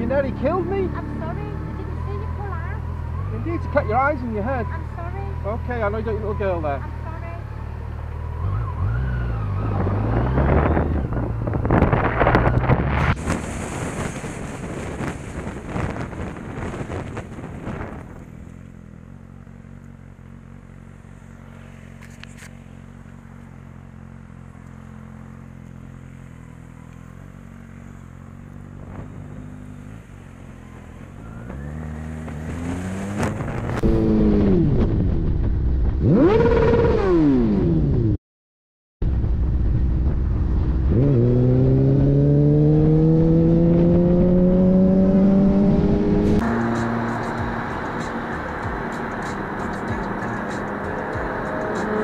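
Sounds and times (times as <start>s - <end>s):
road noise rushing: 0.0s - 38.1s, 39.0s - 52.0s
motorcycle engine revving: 0.0s - 38.2s, 39.3s - 52.0s.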